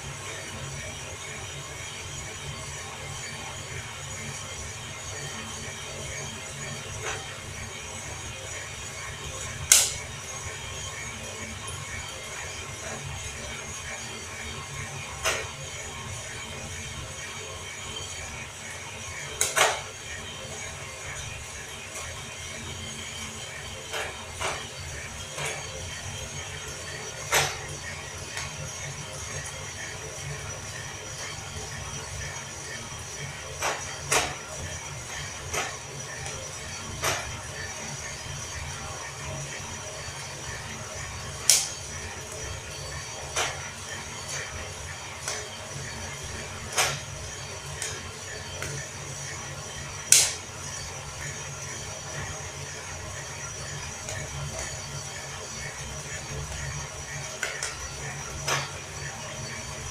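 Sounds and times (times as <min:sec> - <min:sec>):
roaster motor humming: 0:00.0 - 0:59.9.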